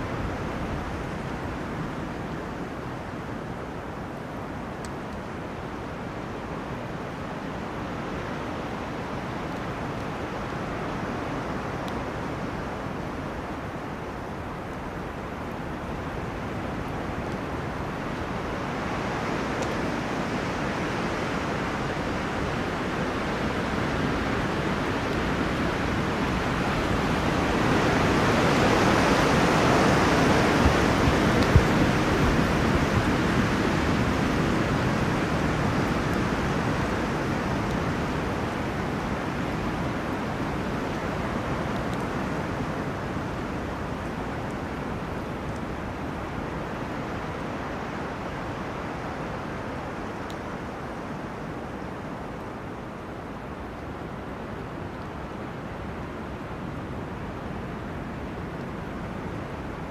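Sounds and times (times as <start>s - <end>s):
wind rushing through trees: 0.0s - 59.9s.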